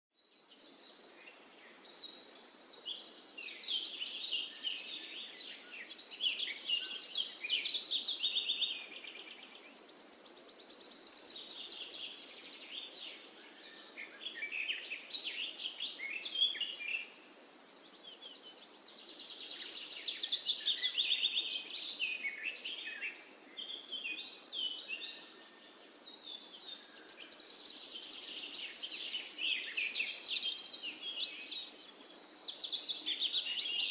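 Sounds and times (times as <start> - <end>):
songbirds chirping and trilling: 0.1 - 33.9
faint steady hiss: 0.2 - 33.9.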